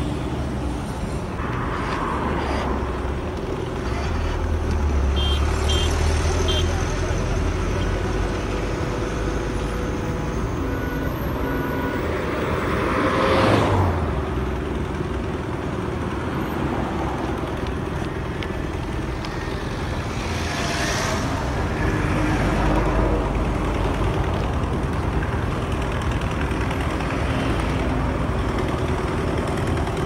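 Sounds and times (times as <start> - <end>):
traffic hum: 0.0 - 30.0.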